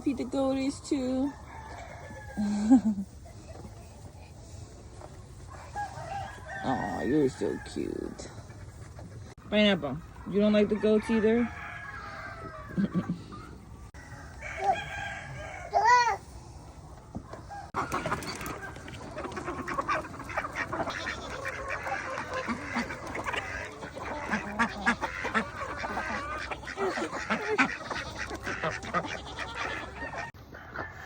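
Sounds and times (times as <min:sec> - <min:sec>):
poultry clucking and squawking: 0:00.1 - 0:31.0.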